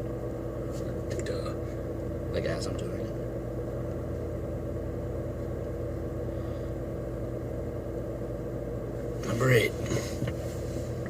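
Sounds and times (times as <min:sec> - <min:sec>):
steady low mechanical hum: 0:00.0 - 0:11.0.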